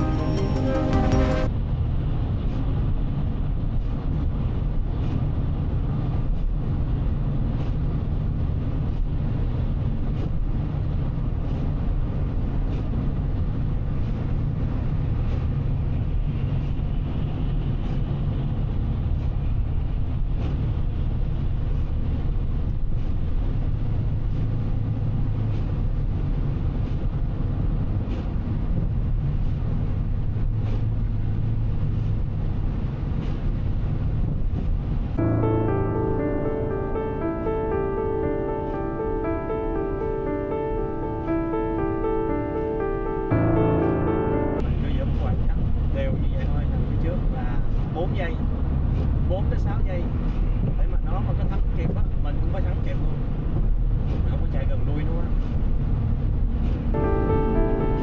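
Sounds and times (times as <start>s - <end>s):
road and engine rumble in car: 0.0s - 58.0s.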